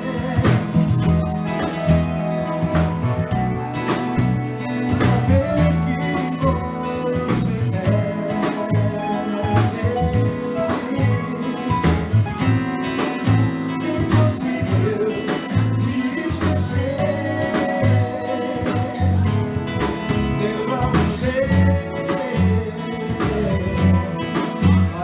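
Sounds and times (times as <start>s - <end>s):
song with guitar and vocals: 0.0s - 25.0s.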